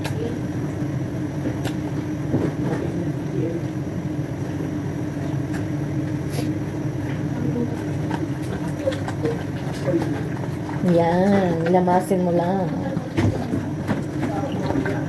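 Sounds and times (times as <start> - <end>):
machine hum and rumble: 0.0 - 15.0.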